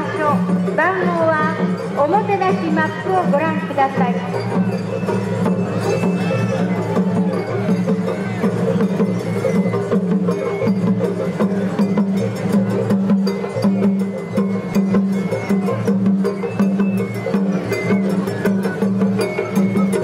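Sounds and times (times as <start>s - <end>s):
drums and hand percussion: 0.0s - 20.0s
held melodic tones: 0.0s - 20.0s.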